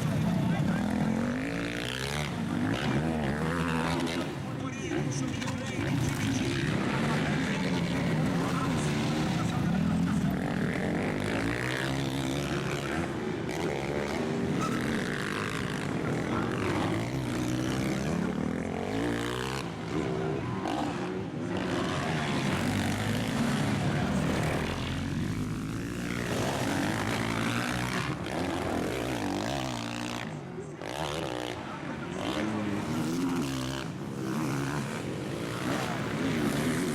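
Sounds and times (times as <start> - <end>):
motocross bike engines revving: 0.0 - 36.9.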